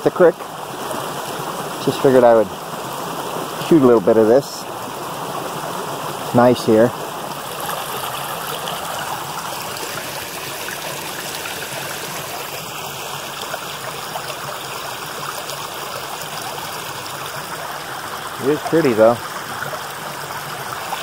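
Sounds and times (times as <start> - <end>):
creek flowing over branches: 0.0 - 21.0.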